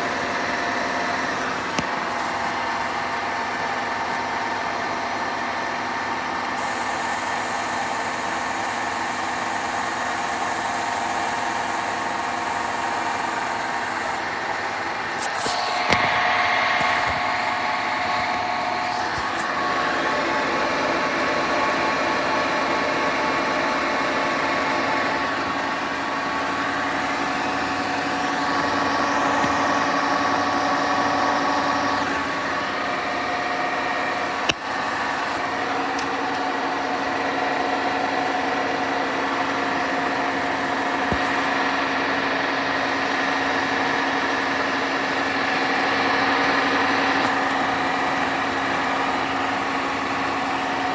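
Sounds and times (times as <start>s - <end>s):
washing machine grinding and whining: 0.0s - 50.9s.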